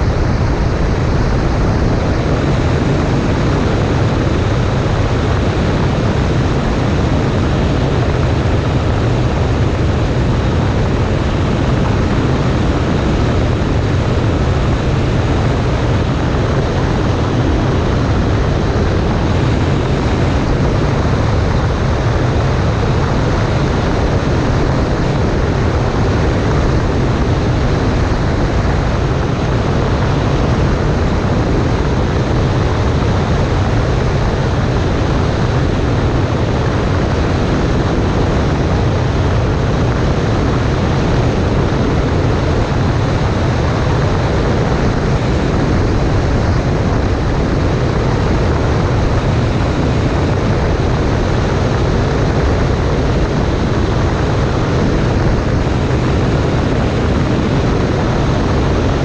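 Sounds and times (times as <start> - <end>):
light airplane engine and propeller: 0.0 - 59.0
rushing airflow: 0.0 - 59.0.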